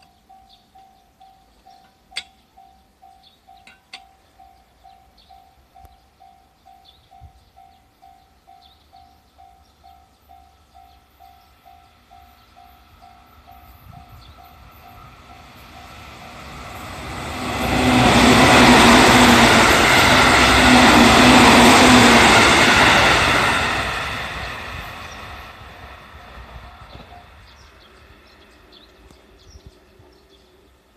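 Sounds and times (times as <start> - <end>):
crossing warning bell: 0.0 - 25.2
train passing: 0.0 - 30.9.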